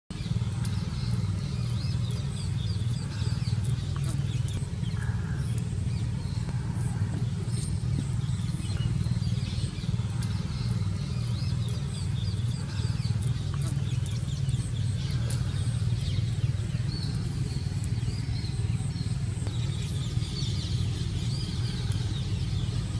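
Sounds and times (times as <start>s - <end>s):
low engine rumble: 0.1s - 22.9s
small birds chirping faintly: 0.1s - 22.9s.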